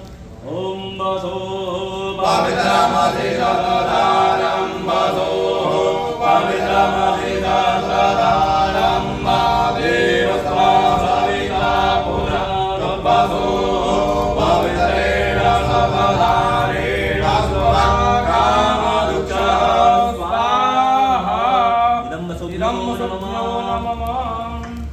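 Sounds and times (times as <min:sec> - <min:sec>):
voices chanting together: 0:00.0 - 0:24.9.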